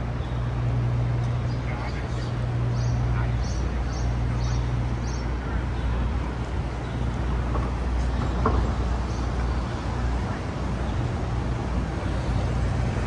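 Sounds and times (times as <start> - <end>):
road traffic rumble: 0.0 - 13.0
street hiss: 0.0 - 13.0.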